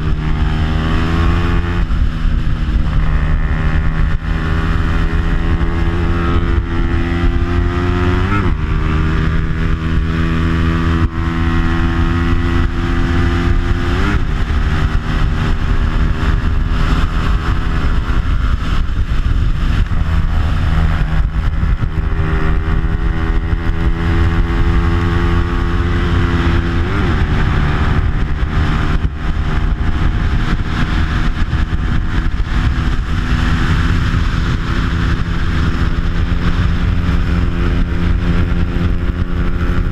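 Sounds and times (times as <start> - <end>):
motorcycle engine racing: 0.0 - 39.9
wind rush: 0.0 - 39.9.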